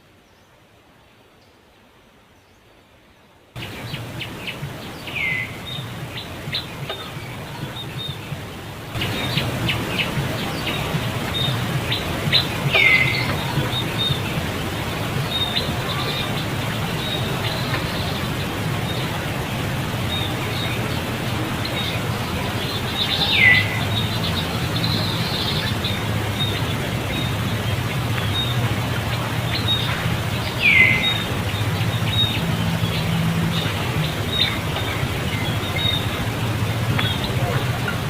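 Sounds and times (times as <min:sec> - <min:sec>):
high downward sliding calls: 0:03.6 - 0:38.0
steady low hum: 0:03.6 - 0:38.0.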